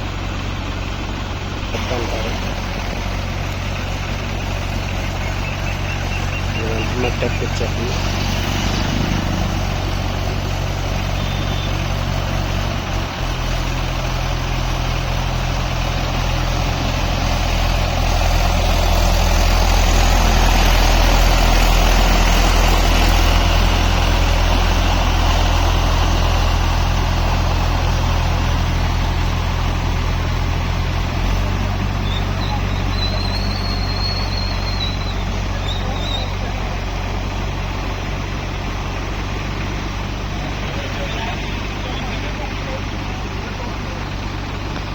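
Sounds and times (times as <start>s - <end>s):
diesel tractor engine under load: 0.0s - 44.9s.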